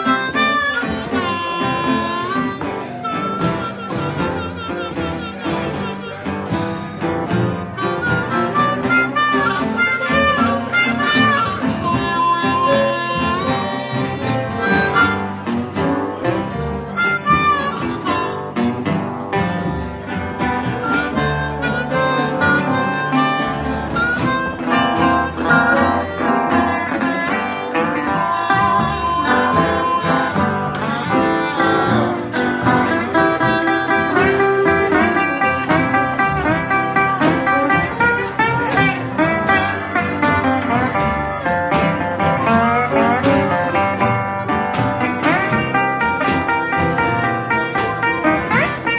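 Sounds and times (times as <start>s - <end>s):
acoustic guitar accompaniment: 0.0s - 48.9s
blues harmonica solo: 0.0s - 48.9s.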